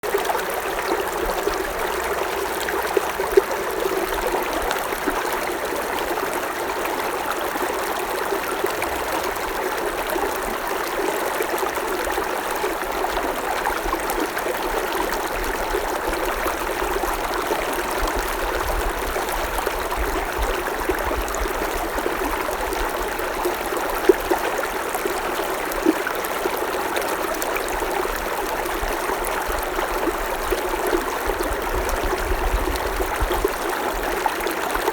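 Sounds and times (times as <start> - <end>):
creek water babbling over stones: 0.0 - 34.9.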